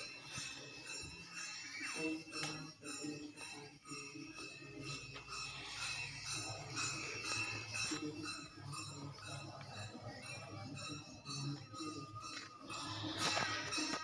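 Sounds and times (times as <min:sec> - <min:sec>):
jingling metal percussion: 0:00.0 - 0:14.0.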